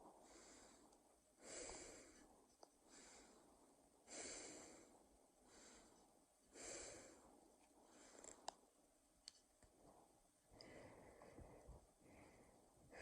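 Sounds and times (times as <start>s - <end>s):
slow breathing: 0.0s - 8.7s, 9.8s - 13.0s.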